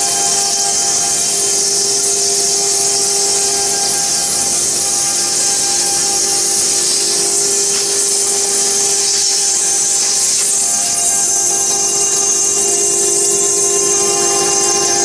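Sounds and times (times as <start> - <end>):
router spindle grinding stone: 0.0 - 15.0.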